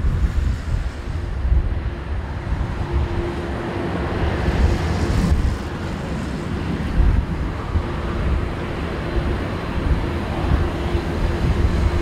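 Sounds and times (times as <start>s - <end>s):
jet engines at takeoff thrust: 0.0s - 12.0s
wind buffeting microphone: 0.0s - 12.0s.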